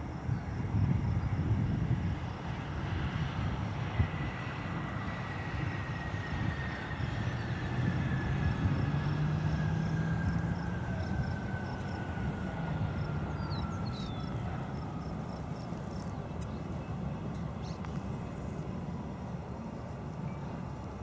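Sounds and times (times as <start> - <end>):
jet engine whine: 0.0 - 21.0
low engine hum: 0.0 - 21.0.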